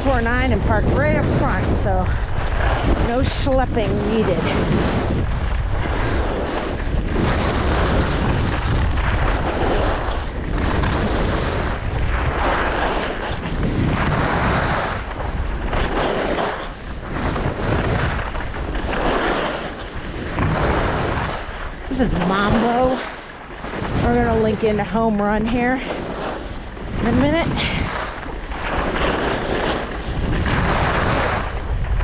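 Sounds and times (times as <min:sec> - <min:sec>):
skis scraping on snow: 0:00.0 - 0:32.0
wind on microphone: 0:00.0 - 0:32.0.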